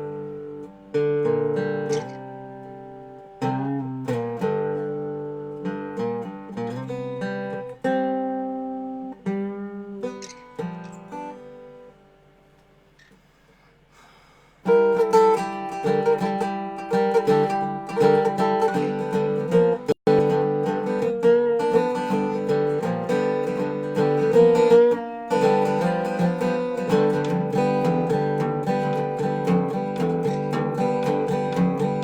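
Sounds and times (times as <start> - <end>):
resonator guitar picking: 0.0 - 13.2, 14.6 - 32.0.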